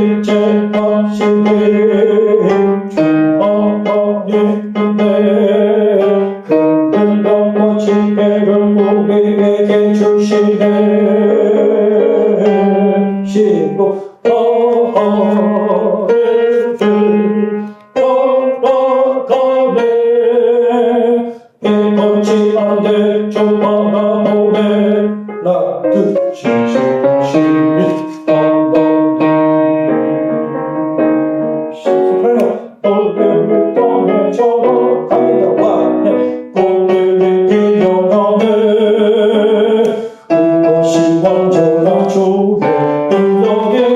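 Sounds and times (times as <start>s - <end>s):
electric piano playing hymn chords: 0.0s - 43.9s.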